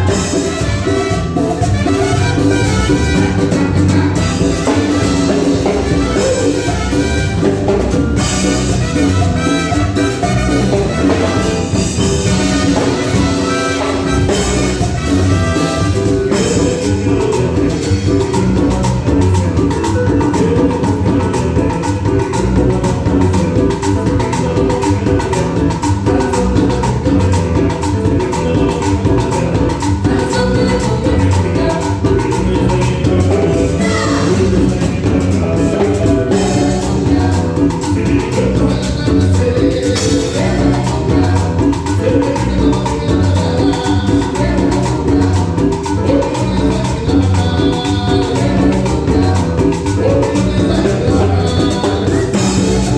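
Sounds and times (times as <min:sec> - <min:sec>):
band playing dance music: 0:00.0 - 0:52.9.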